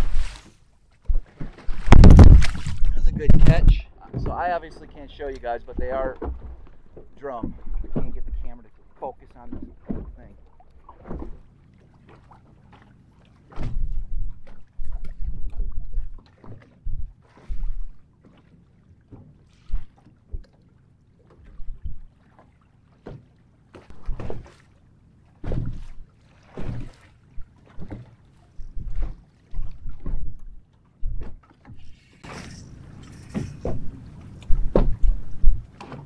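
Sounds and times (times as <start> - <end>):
waves slapping against boat hull: 0.0 - 36.0.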